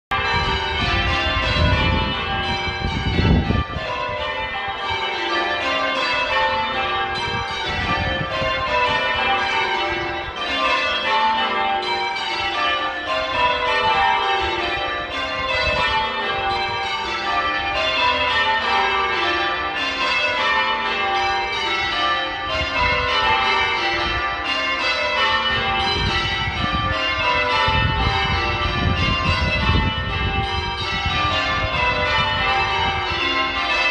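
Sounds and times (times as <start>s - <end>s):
church bells ringing: 0.1s - 33.9s.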